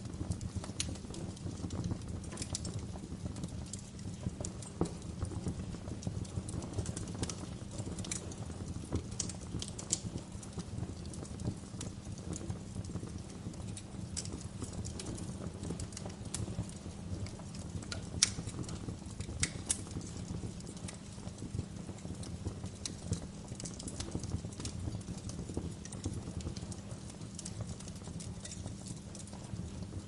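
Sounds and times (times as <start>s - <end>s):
low fire rumble: 0.0s - 30.0s
wood fire crackling: 0.0s - 30.0s.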